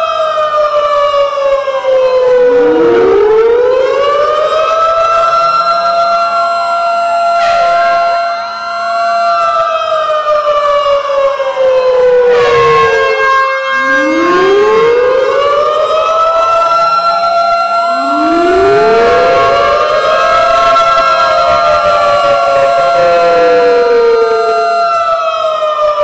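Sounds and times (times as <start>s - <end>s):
steady held siren tones: 0.0s - 26.0s
warning sirens winding: 2.0s - 9.0s, 11.6s - 26.0s.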